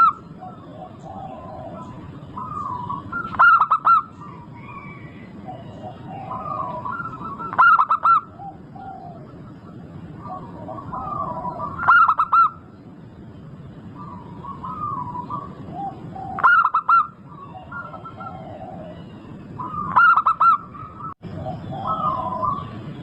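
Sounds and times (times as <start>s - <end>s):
doves cooing: 0.0s - 12.8s, 13.8s - 23.0s.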